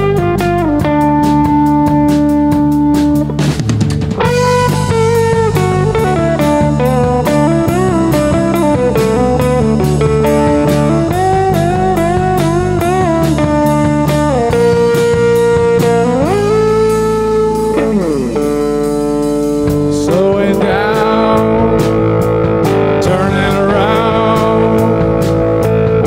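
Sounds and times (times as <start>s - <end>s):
bass guitar: 0.0s - 26.0s
electric guitar solo: 0.0s - 26.0s
steady drum beat: 0.0s - 26.0s.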